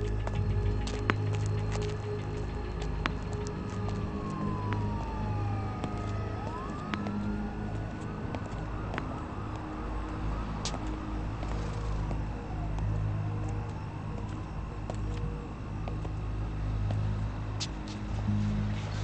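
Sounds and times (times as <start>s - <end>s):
siren wailing: 0.0s - 16.6s
steady low hum: 0.0s - 19.0s.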